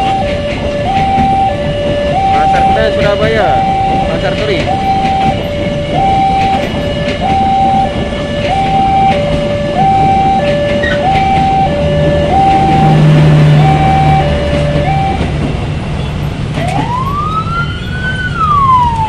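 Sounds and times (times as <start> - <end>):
two-tone electronic warning alarm: 0.0 - 15.5, 16.6 - 19.0
train coaches rumbling past: 0.0 - 19.0.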